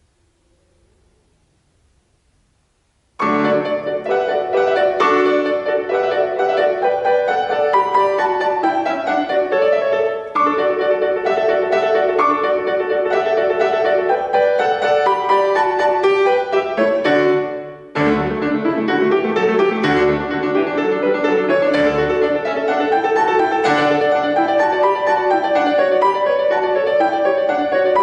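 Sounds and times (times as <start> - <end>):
solo classical piano: 3.1 - 28.0.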